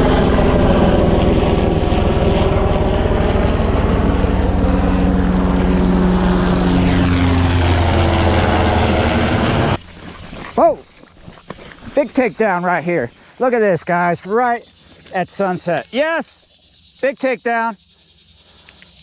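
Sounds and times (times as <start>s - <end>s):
helicopters flying low: 0.0s - 10.8s, 11.8s - 17.8s.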